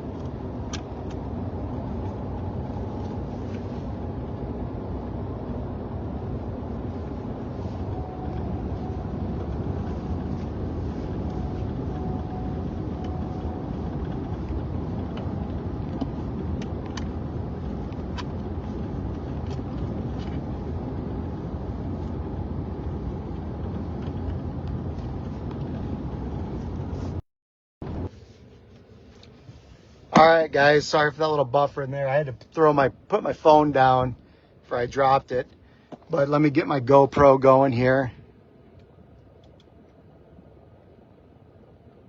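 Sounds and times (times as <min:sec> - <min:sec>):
car road and engine noise: 0:00.0 - 0:27.2, 0:27.8 - 0:42.0.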